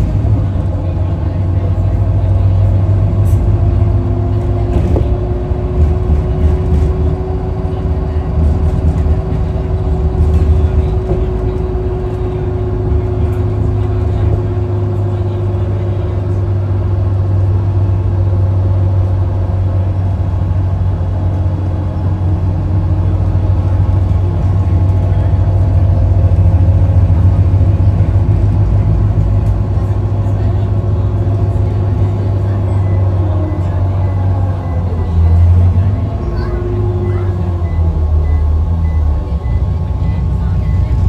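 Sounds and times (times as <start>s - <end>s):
vehicle engine and tyres rumbling: 0.0s - 41.0s.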